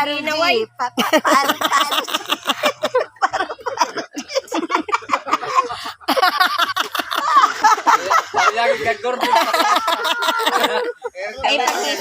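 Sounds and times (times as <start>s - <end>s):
people talking: 0.0s - 12.0s.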